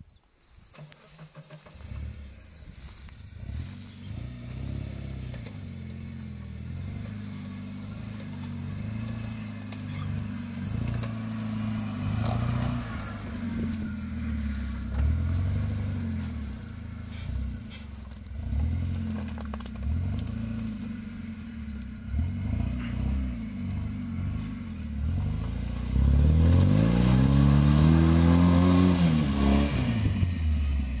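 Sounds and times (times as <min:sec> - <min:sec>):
car engine revving: 0:01.1 - 0:31.0.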